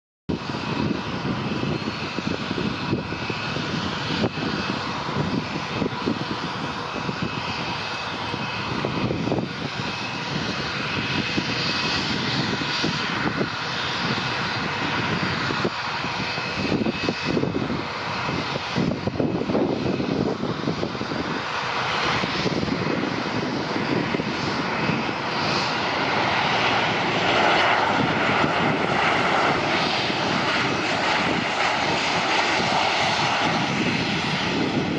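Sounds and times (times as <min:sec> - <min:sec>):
jet engine with fan whine: 0:00.3 - 0:34.9.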